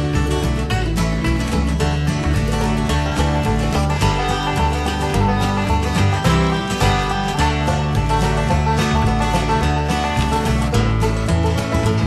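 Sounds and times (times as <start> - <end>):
country guitar music: 0.0 - 12.0.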